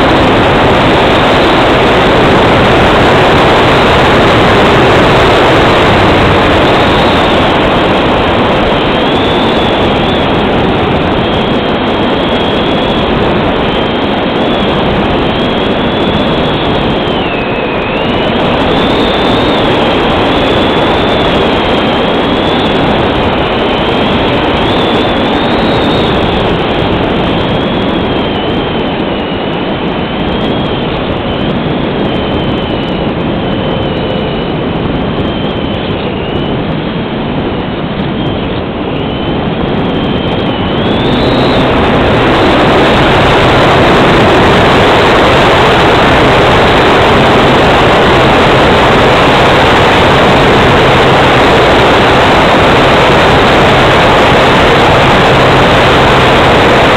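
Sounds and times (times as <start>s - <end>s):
model plane motor whine: 0.0s - 56.9s
wind rush: 0.0s - 56.9s.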